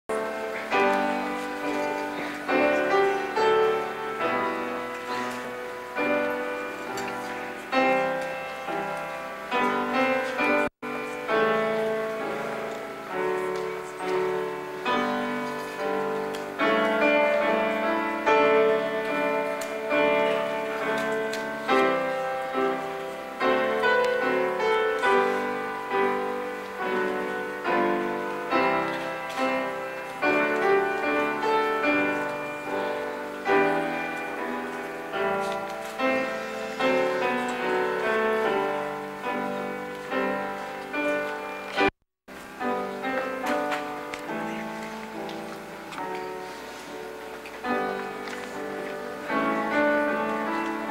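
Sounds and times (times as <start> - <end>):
slow piano chords ringing: 0.1 - 50.9.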